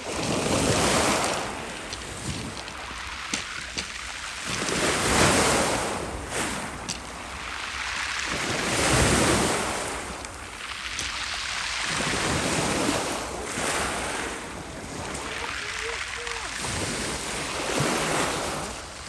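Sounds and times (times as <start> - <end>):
surf washing onto shore: 0.0 - 19.0.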